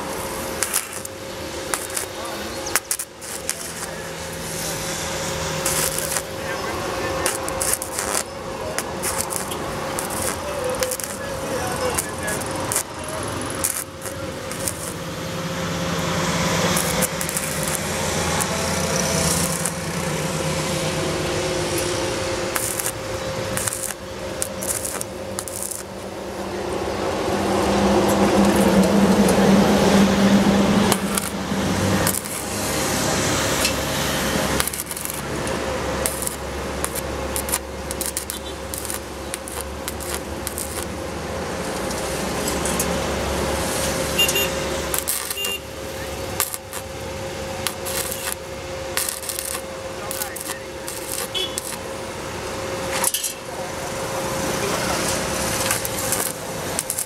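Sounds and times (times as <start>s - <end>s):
welding arc crackling and hissing: 0.0s - 57.0s.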